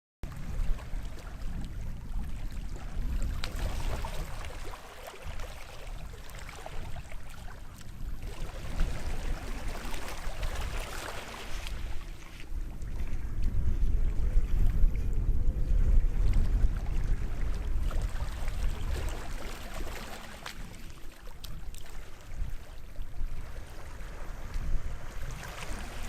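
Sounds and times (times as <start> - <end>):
wind rumble on microphone: 0.2 - 26.0
small waves washing on shore: 0.3 - 26.0.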